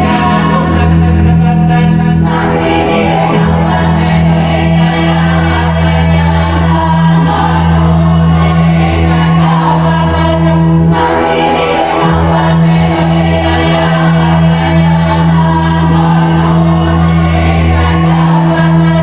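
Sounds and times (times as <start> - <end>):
choral voices singing: 0.0 - 19.0.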